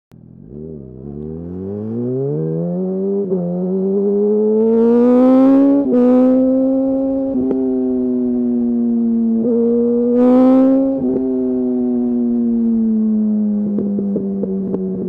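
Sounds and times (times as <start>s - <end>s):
motorcycle engine accelerating hard: 0.2s - 15.0s.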